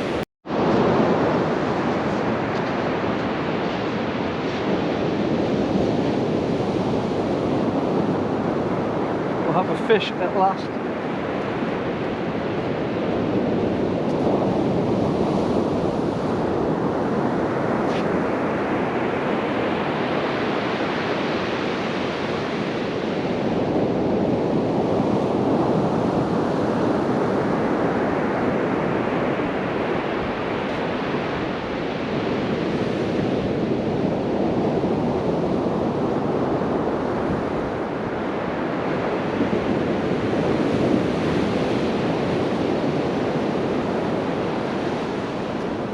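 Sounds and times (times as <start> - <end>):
sea surf breaking: 0.0 - 45.9.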